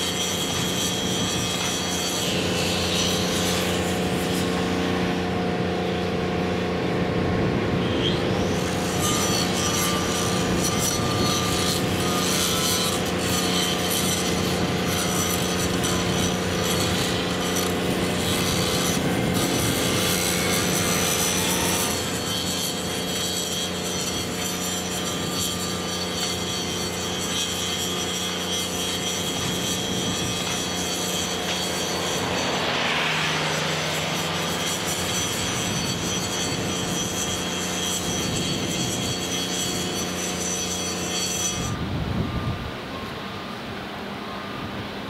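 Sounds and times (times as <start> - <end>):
rough rasping scraping: 0.0 - 6.8, 7.7 - 41.8
constant machine hum: 0.0 - 45.0.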